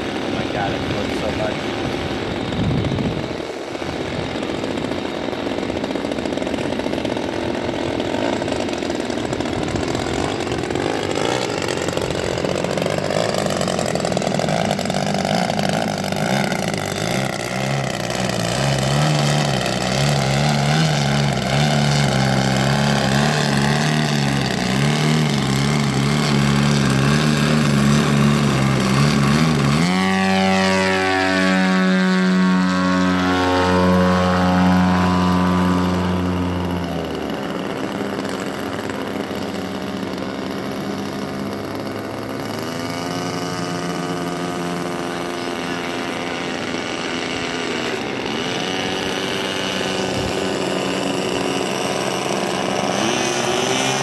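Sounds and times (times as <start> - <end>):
model plane engine buzzing: 0.0 - 54.0.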